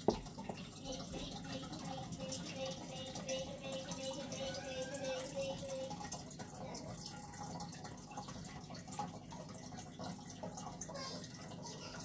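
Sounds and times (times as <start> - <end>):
aquarium filter water trickling: 0.0 - 12.0
water drips and splashes: 0.0 - 12.0.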